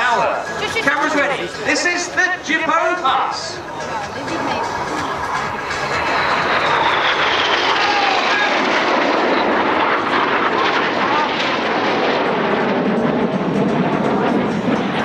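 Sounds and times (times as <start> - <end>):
jets flying low pass: 0.0 - 15.0.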